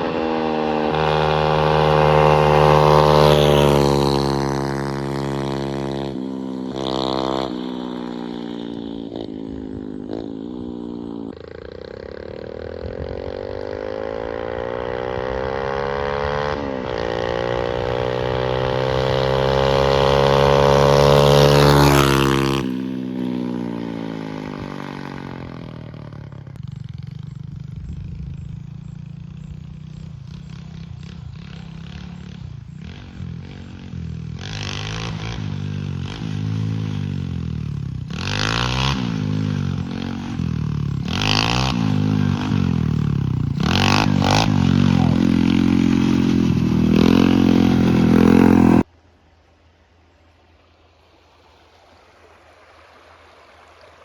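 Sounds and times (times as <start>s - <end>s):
mini bike engine revving: 0.0s - 48.9s.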